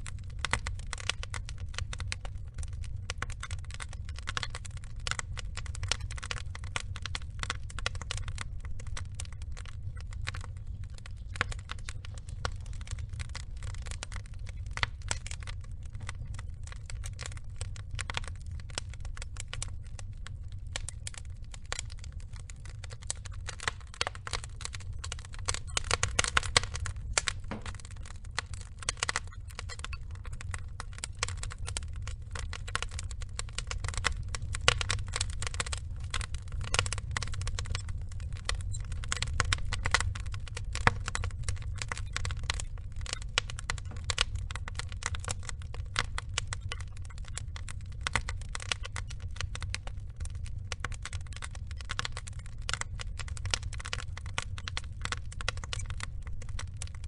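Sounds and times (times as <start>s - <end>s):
steady low rumble: 0.0s - 56.4s
logs crackling and popping: 0.0s - 57.0s.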